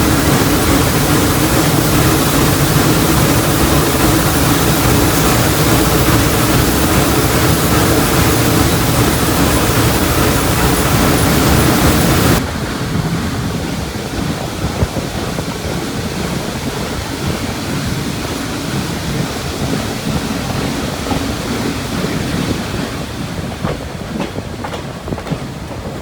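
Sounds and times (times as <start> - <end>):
train rumbling on track: 0.0 - 26.0.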